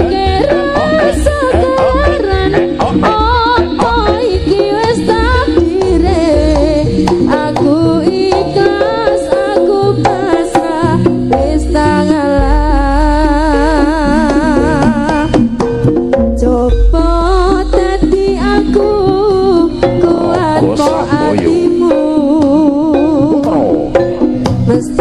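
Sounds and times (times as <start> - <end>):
hand drum percussion: 0.0 - 25.0
instrumental pop music: 0.0 - 25.0.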